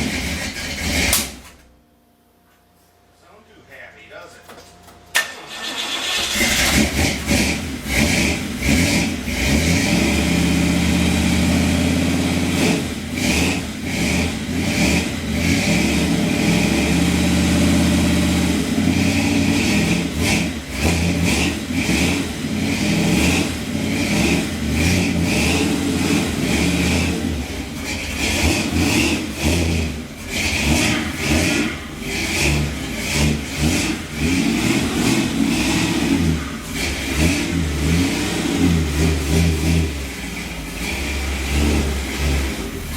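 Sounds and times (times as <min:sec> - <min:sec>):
truck engine revving unevenly: 0:06.0 - 0:42.9.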